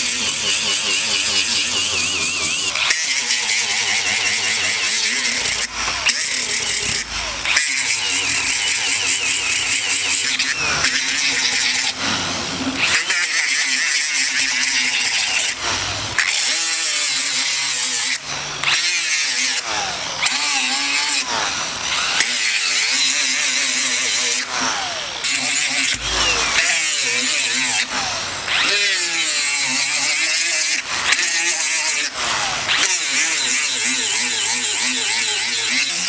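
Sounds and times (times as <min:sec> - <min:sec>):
power tool running: 0:00.0 - 0:36.0.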